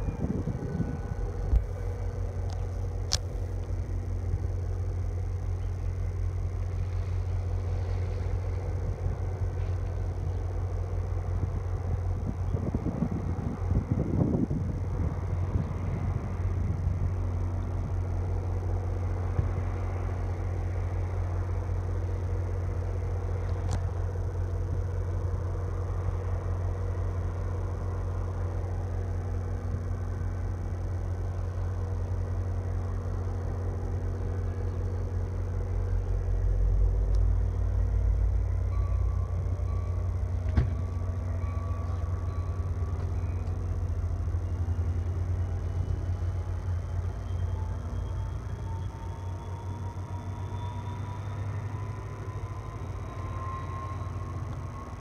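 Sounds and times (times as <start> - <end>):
rising whine: 0.0 - 55.0
train humming and droning: 0.0 - 55.0.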